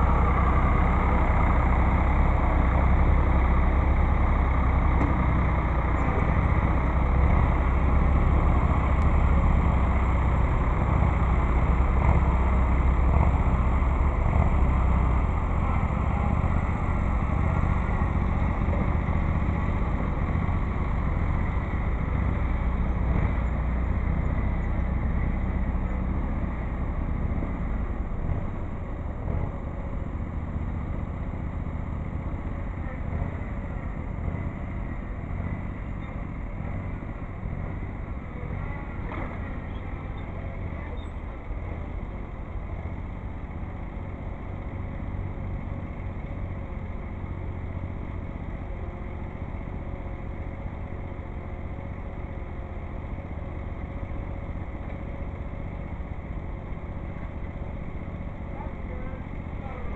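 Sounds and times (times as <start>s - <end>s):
tractor engine rumbling: 0.0s - 59.9s.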